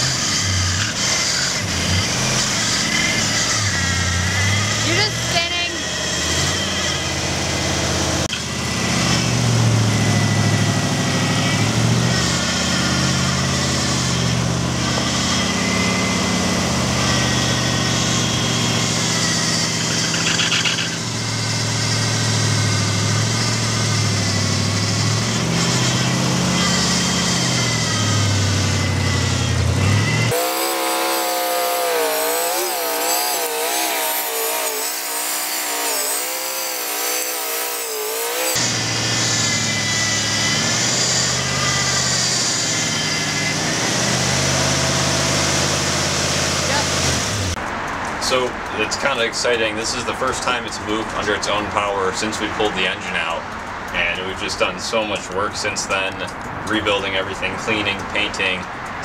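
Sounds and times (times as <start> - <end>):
pickup truck engine running: 0.0 - 34.1, 43.2 - 59.0.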